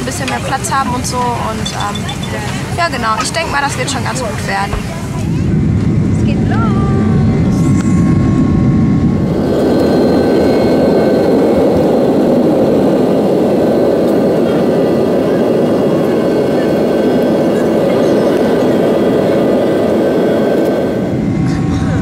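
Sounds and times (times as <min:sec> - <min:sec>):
jet engine rushing noise: 0:00.0 - 0:22.0.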